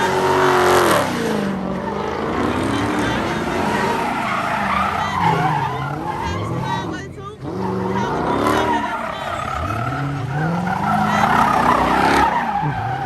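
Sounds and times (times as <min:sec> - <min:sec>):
car engine revving: 0:00.0 - 0:13.0
tyres squealing: 0:00.0 - 0:13.0.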